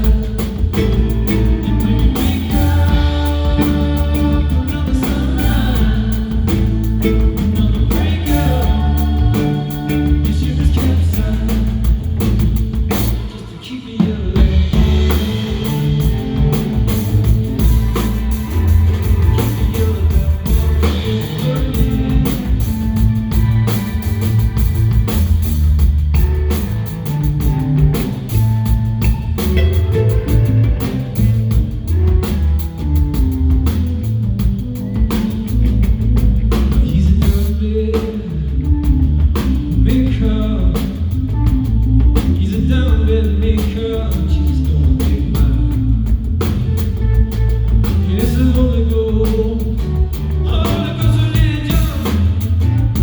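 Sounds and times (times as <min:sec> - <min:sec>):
live band music: 0:00.0 - 0:53.0.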